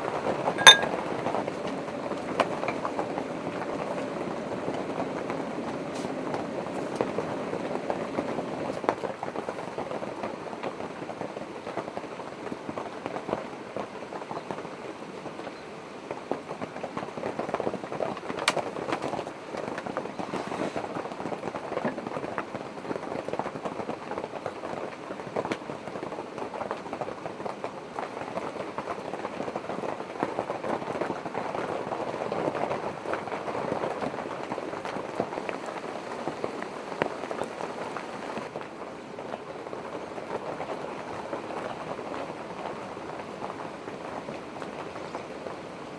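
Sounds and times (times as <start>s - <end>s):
rain pattering on tent canvas: 3.2s - 45.9s.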